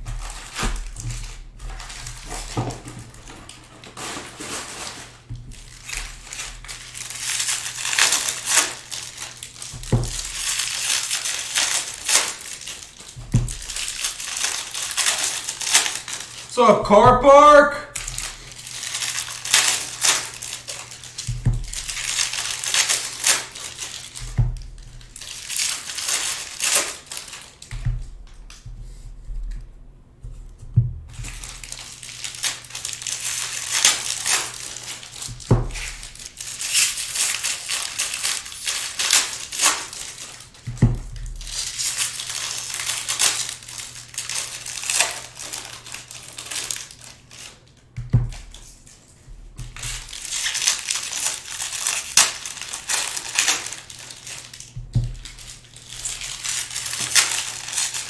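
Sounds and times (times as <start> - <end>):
plastic wrapping crinkling: 0.0 - 27.7, 31.2 - 49.0, 49.6 - 58.0.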